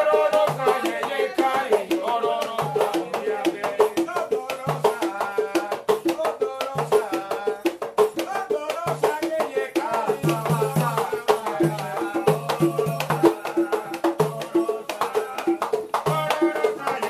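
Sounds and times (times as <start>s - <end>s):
drums playing interlocking rhythms: 0.0s - 17.0s
voices singing: 0.0s - 17.0s.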